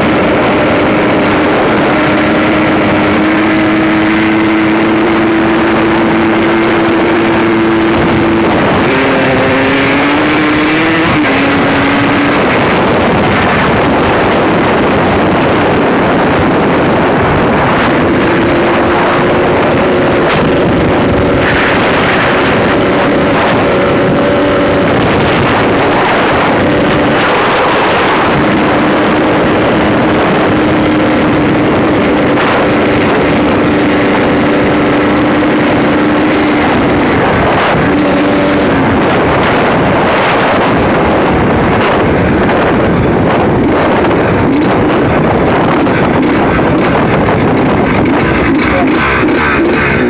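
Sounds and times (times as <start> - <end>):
motorcycle engine running hard: 0.0 - 50.0
wind noise on microphone: 0.0 - 50.0.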